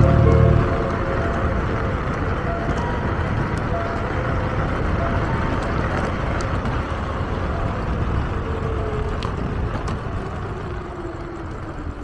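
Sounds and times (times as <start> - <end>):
wheel rumble: 0.0 - 12.0
wind noise: 0.0 - 12.0.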